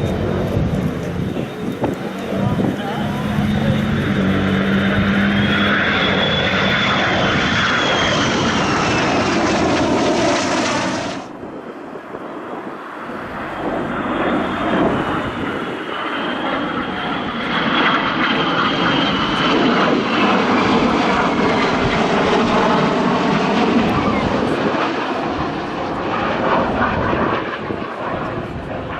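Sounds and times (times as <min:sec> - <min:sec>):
jet flyover whine: 0:00.0 - 0:28.9.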